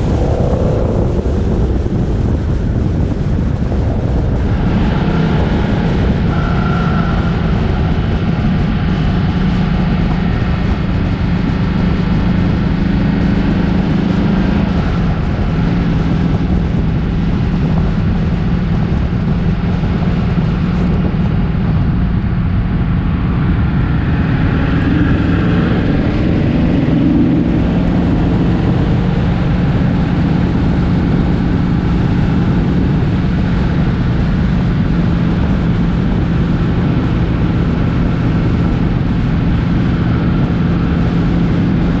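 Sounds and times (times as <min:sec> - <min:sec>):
car engine droning: 0:00.0 - 0:42.0.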